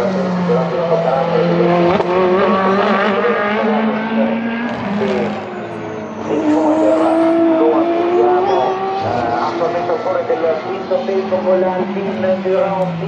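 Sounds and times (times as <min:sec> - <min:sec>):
car accelerating: 0:00.0 - 0:13.0
racing car engines: 0:00.0 - 0:13.0.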